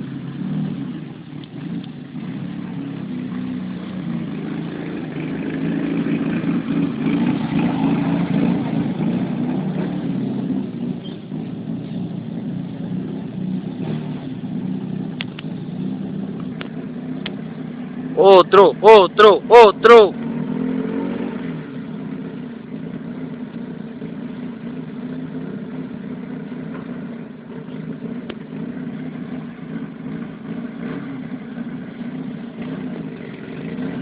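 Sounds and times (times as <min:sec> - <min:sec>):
car engine running under load: 0:00.0 - 0:34.0.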